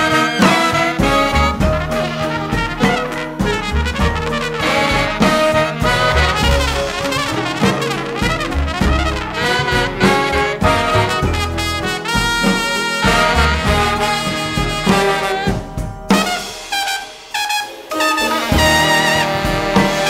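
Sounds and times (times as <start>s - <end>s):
large jazz ensemble playing: 0.0s - 20.0s.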